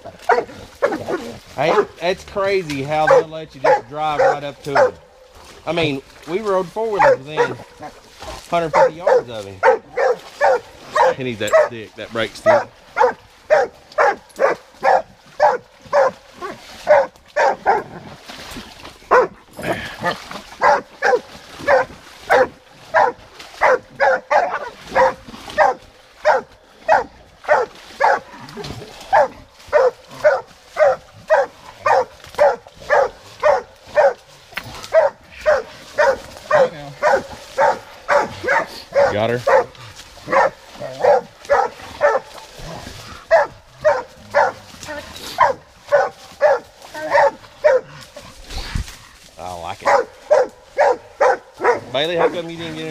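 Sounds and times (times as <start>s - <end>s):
dog barking: 0.2s - 2.0s, 3.0s - 5.1s, 6.9s - 8.0s, 8.6s - 11.8s, 12.4s - 18.0s, 19.1s - 19.4s, 20.6s - 28.3s, 29.1s - 42.4s, 43.3s - 48.0s, 49.8s - 52.9s.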